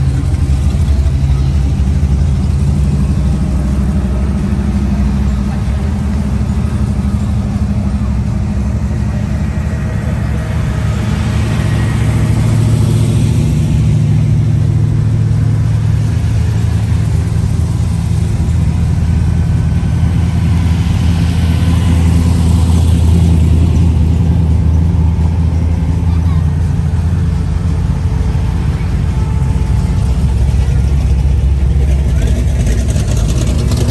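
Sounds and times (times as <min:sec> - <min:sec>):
car engines rumbling: 0:00.0 - 0:33.9.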